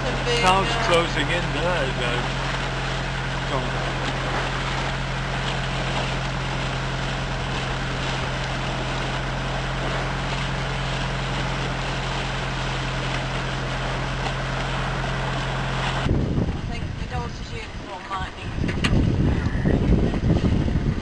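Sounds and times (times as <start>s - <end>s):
boat engine droning: 0.0s - 21.0s
rush of wind and water: 0.0s - 21.0s.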